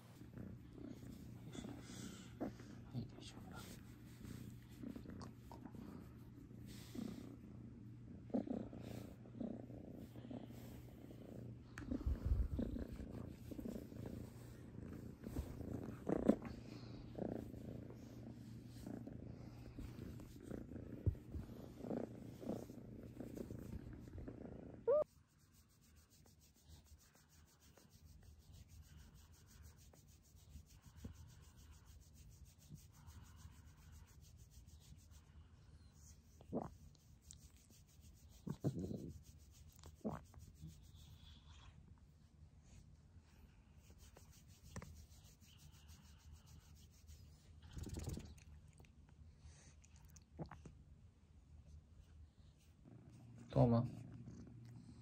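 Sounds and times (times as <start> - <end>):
hand rubbing fur: 0.0 - 7.6, 8.4 - 41.6, 42.7 - 48.4
kitten purring: 0.0 - 42.0, 42.7 - 50.9, 51.7 - 55.0.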